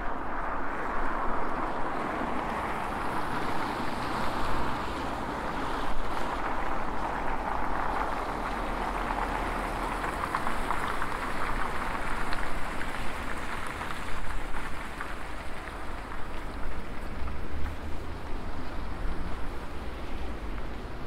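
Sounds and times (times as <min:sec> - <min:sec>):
bicycle tyres on snow: 0:00.0 - 0:21.0.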